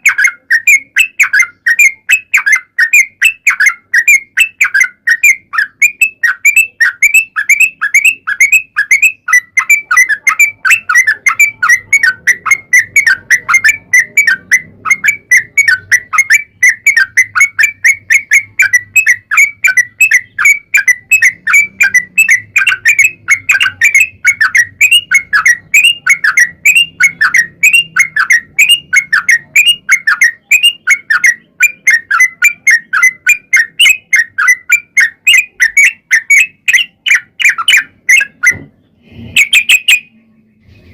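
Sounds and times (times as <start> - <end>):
bird chirping rapidly: 0.0 - 40.2.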